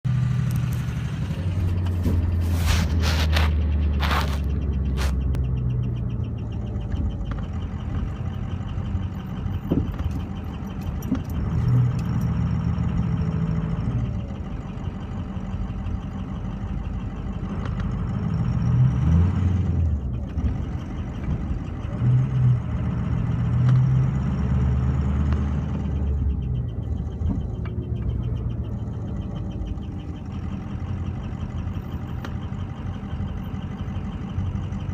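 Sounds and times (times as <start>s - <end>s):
diesel engine ticking: 0.0s - 34.9s.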